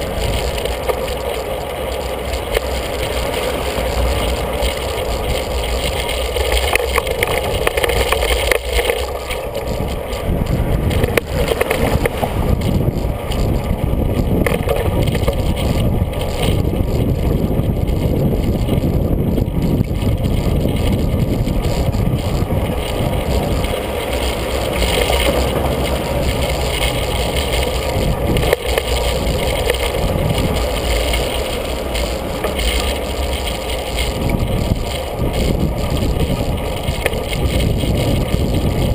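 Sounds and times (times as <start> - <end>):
bicycle tyre and road noise: 0.0 - 38.9
wind on microphone: 0.0 - 38.9.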